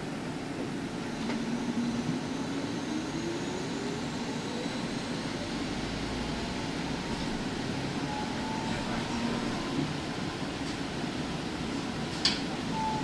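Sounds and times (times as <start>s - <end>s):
electric bus drive whining: 0.2s - 13.0s.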